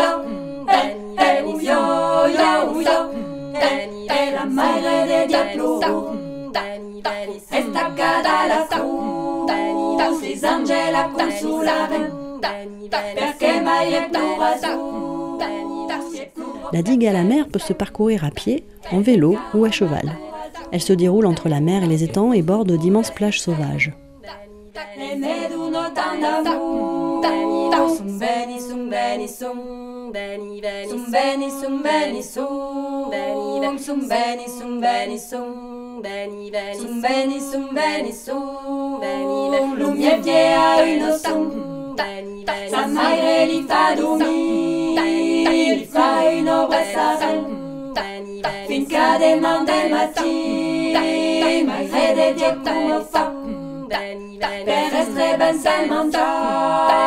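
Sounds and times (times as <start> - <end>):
a cappella ensemble singing: 0.0 - 57.0.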